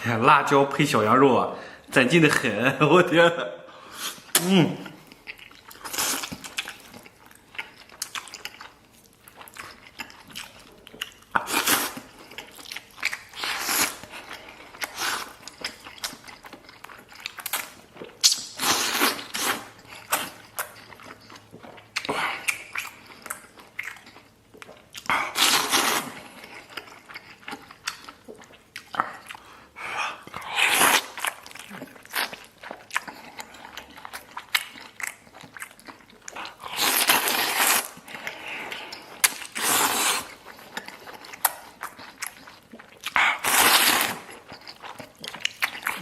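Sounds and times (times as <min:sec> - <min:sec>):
man chewing food: 0:03.7 - 0:46.0.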